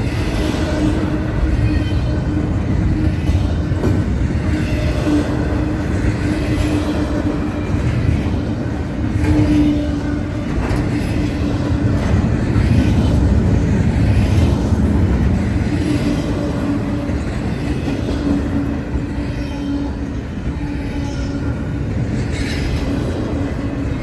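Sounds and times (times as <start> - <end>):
train wheels rolling on rails: 0.0 - 24.0.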